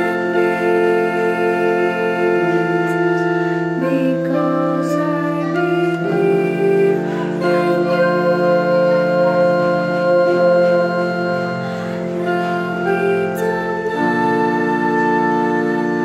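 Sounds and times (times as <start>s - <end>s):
electronic keyboard chords: 0.0s - 16.0s
women singing: 0.0s - 16.0s.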